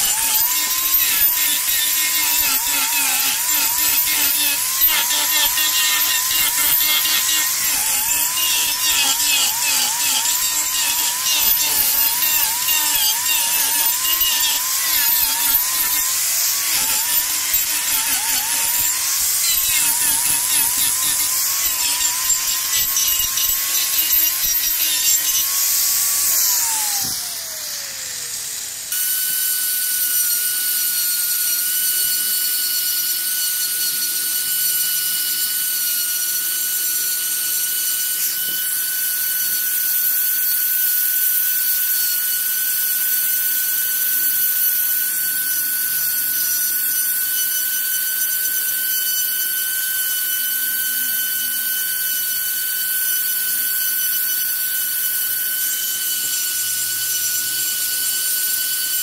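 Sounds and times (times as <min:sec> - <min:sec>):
die grinder high whine: 0:00.0 - 0:59.0
power grinder carving wood: 0:00.0 - 0:59.0.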